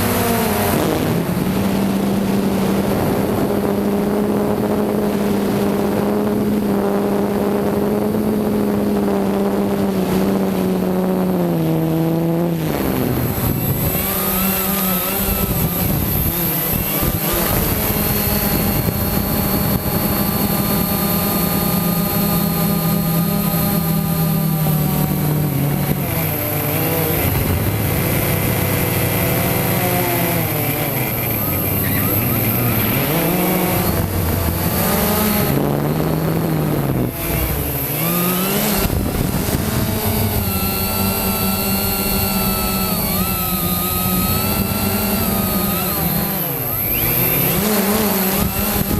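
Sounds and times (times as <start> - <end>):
high whine: 0.0 - 48.9
quadcopter propellers buzzing: 0.0 - 48.9.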